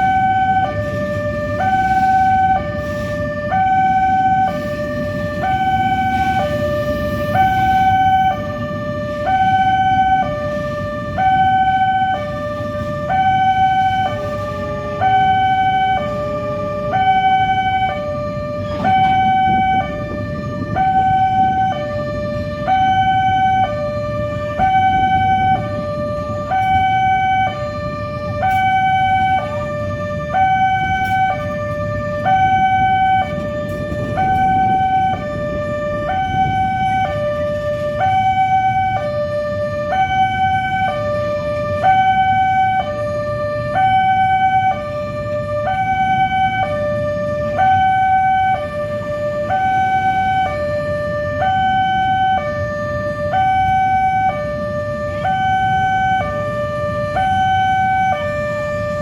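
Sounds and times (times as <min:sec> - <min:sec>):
road traffic: 0:00.0 - 0:59.0
two-tone warning siren: 0:00.0 - 0:59.0.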